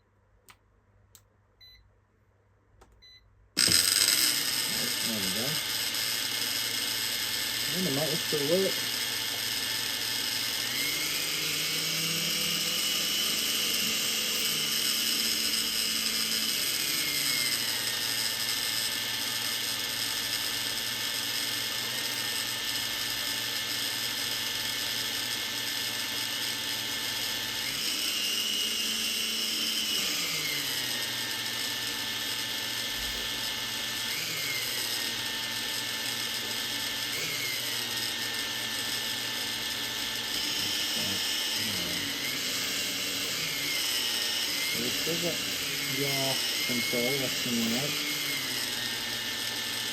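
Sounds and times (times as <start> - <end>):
drone motors whining: 3.6 - 49.9.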